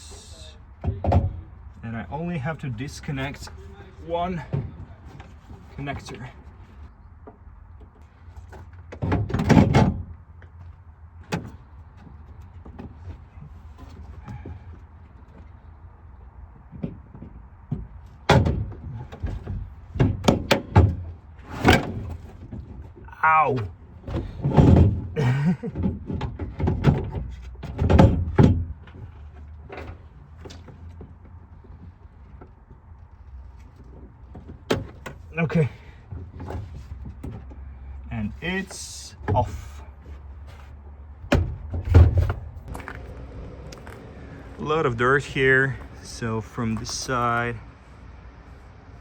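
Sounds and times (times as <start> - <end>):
knocks clunks and scrapes: 0.0 - 49.0.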